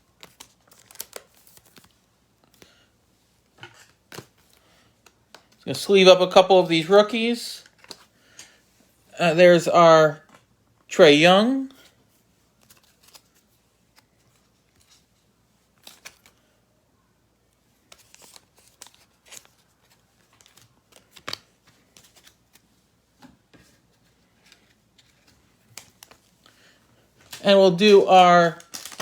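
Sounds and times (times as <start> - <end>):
cards rustling in plastic sleeves: 0.0 - 8.6, 10.9 - 16.6, 17.6 - 29.0.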